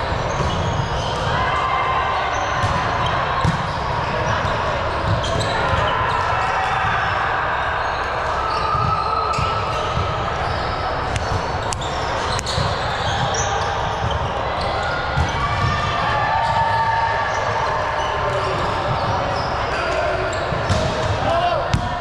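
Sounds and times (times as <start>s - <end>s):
hubbub of voices: 0.0s - 22.0s.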